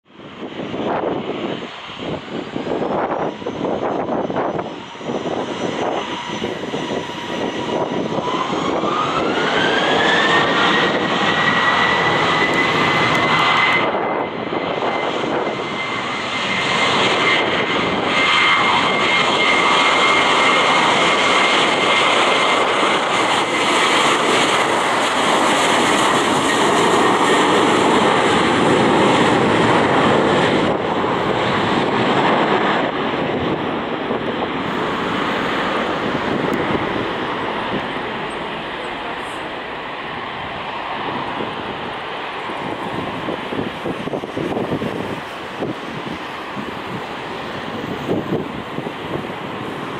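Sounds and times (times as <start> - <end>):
jet engines spooling up: 0.2 - 49.9.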